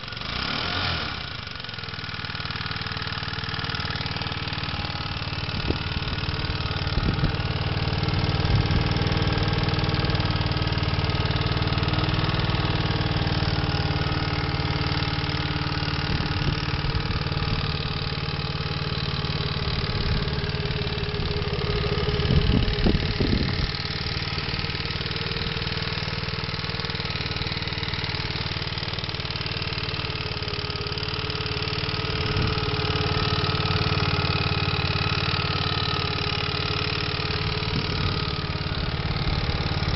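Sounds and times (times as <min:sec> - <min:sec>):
car engine idling with rattling: 0:00.0 - 0:39.9.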